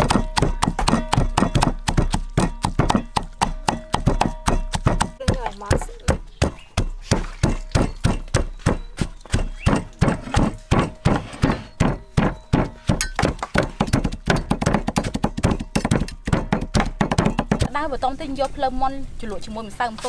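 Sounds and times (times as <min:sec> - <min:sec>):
pestle pounding in wooden mortar: 0:00.0 - 0:17.8.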